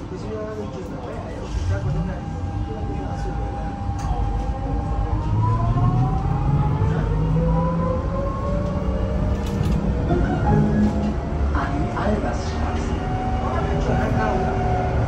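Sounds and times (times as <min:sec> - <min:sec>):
low running rumble: 0:01.3 - 0:15.0
electric tram drive whine: 0:01.4 - 0:15.0.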